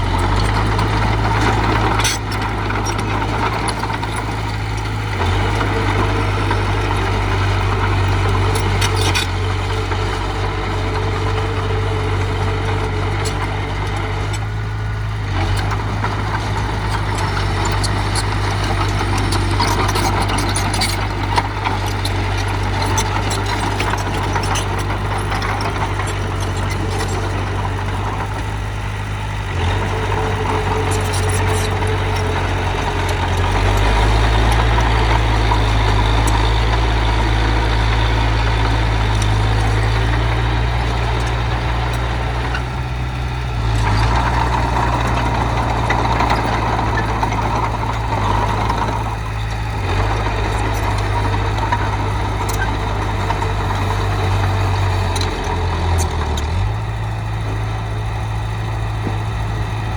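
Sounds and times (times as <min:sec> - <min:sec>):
heavy diesel machinery engine: 0:00.0 - 0:59.9.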